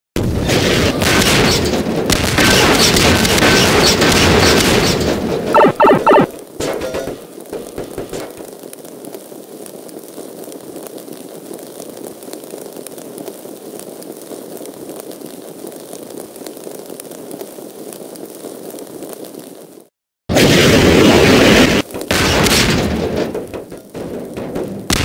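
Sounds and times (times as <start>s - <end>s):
fire crackling and popping: 0.2s - 25.0s.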